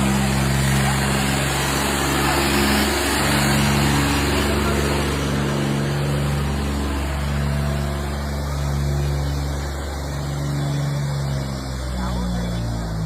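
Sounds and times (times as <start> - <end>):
tractor diesel engine running hard: 0.0 - 13.0.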